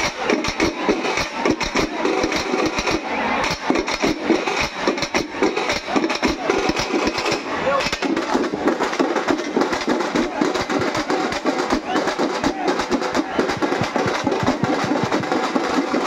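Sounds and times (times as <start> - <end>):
hand drums playing fast rhythm: 0.0 - 3.0, 3.6 - 16.0
crowd voices: 0.0 - 16.0.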